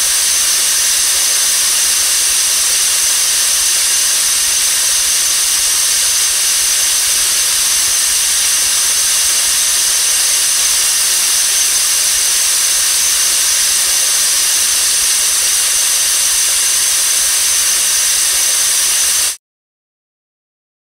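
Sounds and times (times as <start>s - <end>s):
faint high whine: 0.0s - 19.4s
loud steady hissing: 0.0s - 19.4s.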